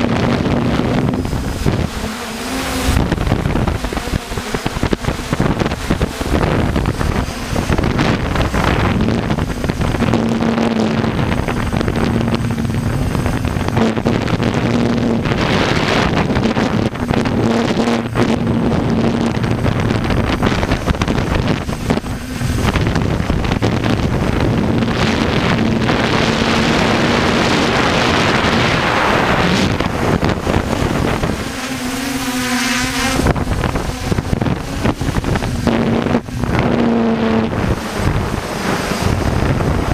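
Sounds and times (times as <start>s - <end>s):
low hum: 0.0s - 39.9s
motor running: 0.0s - 39.9s
wind buffeting microphone: 0.0s - 39.9s.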